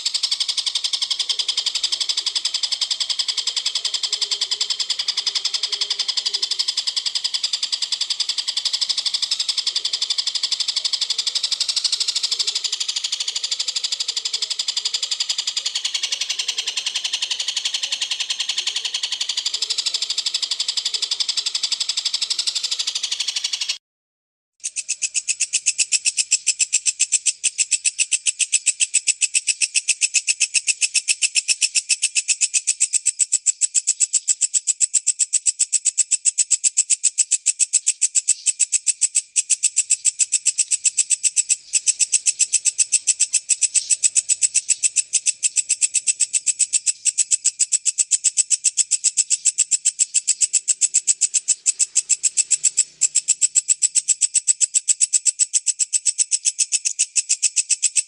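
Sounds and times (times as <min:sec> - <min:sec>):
bush cricket chirring: 0:00.0 - 0:23.8, 0:24.6 - 0:58.0.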